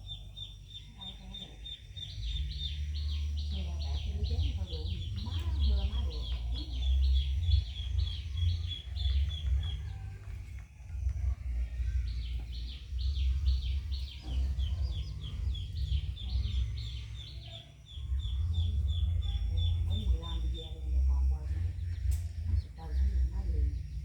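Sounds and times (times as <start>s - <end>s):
bird chirping: 0.0s - 24.0s
steady low rumble: 0.0s - 24.0s.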